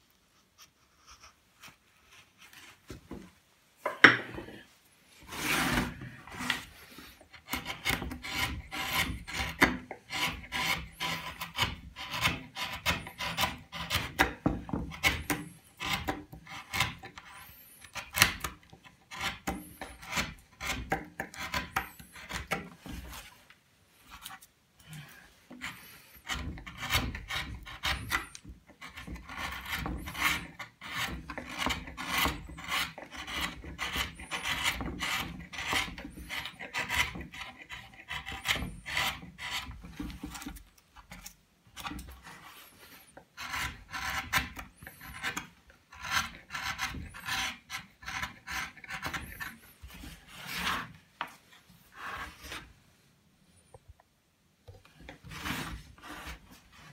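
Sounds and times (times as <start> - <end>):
chisel cutting and scraping wood: 0.4 - 52.8, 54.7 - 56.9.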